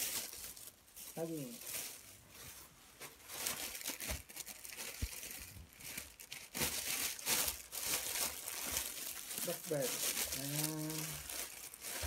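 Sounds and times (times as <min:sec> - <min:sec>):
plastic bags rustling and crinkling: 0:00.0 - 0:12.0.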